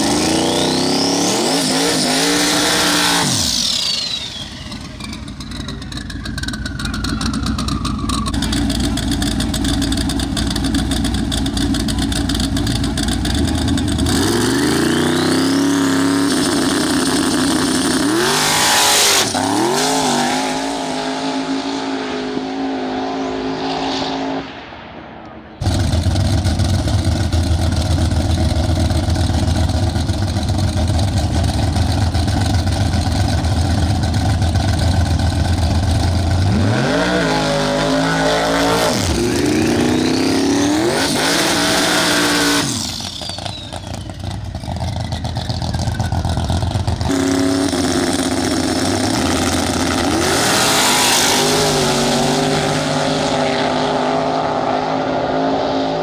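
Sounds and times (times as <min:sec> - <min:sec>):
drag race car engine revving: 0:00.0 - 0:24.6, 0:25.6 - 0:56.0.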